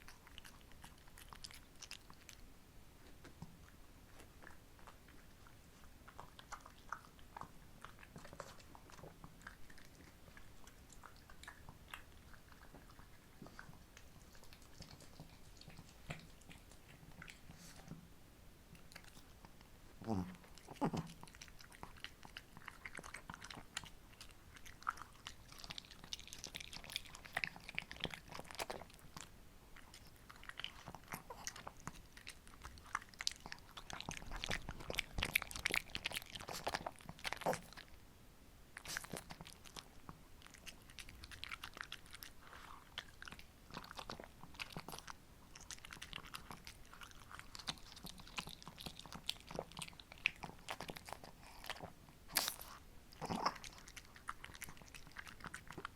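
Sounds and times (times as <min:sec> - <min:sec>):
dog chewing and crunching treat: 0:00.0 - 0:18.0, 0:18.8 - 0:38.0, 0:38.7 - 0:55.9.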